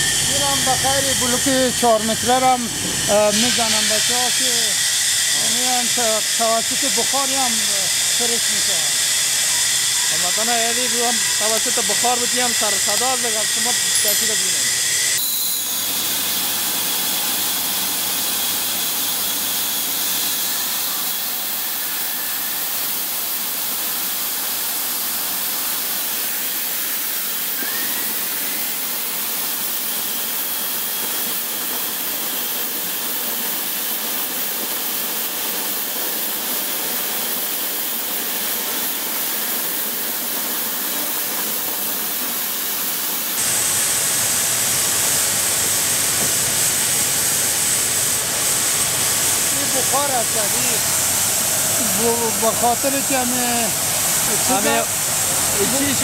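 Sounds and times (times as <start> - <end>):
steam venting hiss: 0.0 - 56.0.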